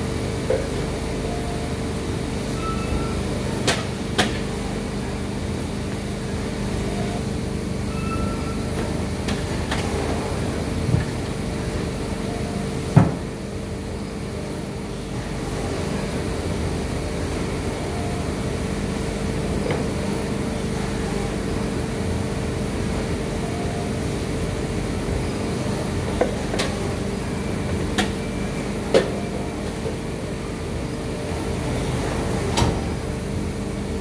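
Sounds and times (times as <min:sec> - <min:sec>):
factory machinery hum: 0:00.0 - 0:34.0.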